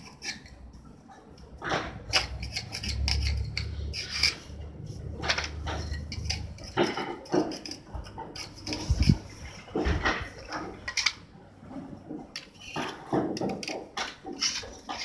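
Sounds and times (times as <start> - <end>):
tools scraping and clinking: 0.0 - 15.0.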